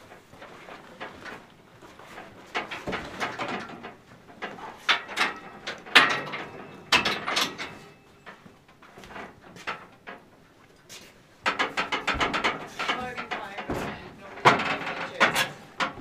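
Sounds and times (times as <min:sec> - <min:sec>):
metal bars clanking and rattling: 0:02.1 - 0:10.4, 0:11.4 - 0:16.0.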